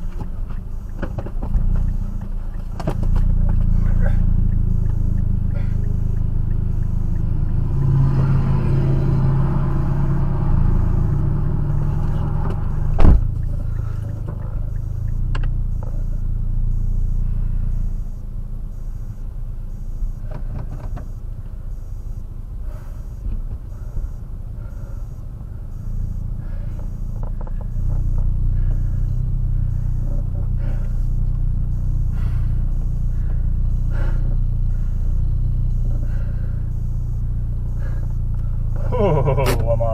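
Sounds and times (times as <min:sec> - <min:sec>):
low steady rumble: 0:00.0 - 0:39.9.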